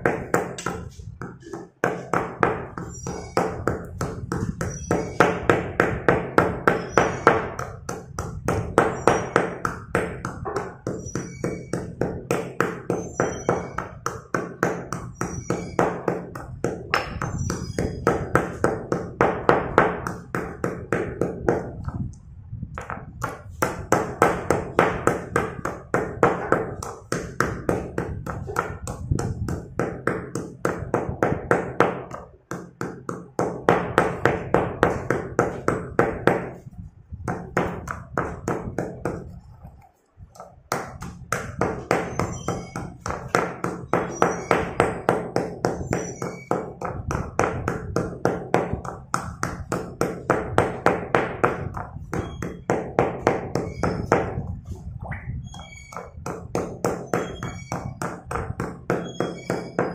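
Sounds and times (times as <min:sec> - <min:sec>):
pestle crushing in stone mortar: 0:00.0 - 0:22.0, 0:22.8 - 0:36.6, 0:37.2 - 0:59.9.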